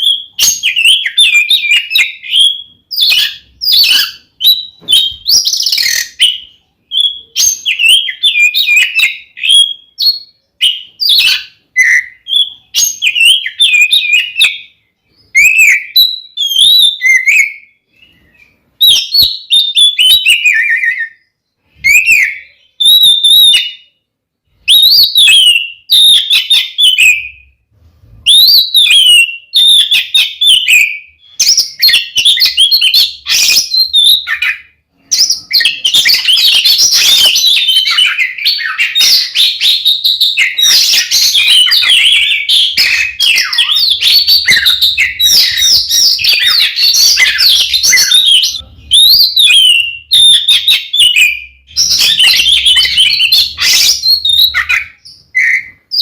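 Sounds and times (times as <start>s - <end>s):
magpie-robin singing whistled phrases: 0.0s - 56.0s.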